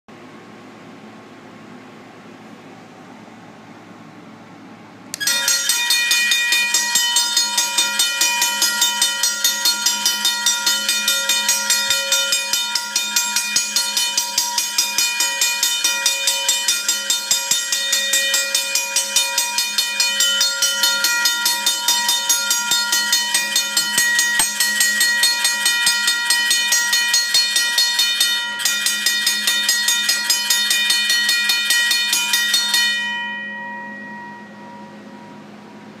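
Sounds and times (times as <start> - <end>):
railroad crossing bell ringing: 5.2 - 36.0.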